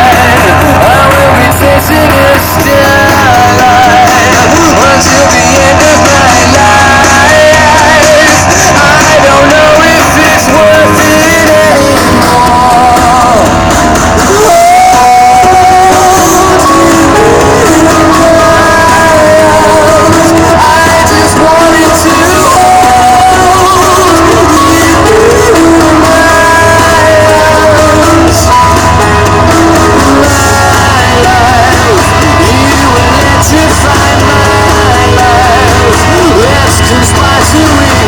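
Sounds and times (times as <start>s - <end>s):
loud music with singing: 0.0s - 38.0s.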